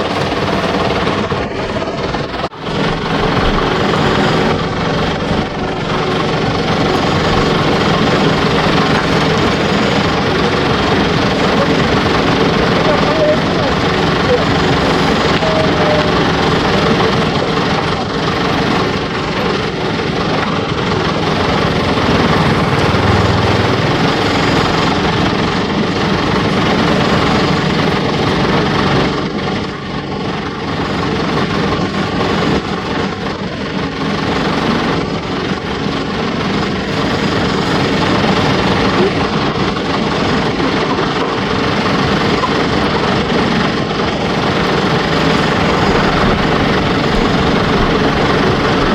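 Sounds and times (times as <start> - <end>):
loud engine with constant hiss: 0.0 - 48.9.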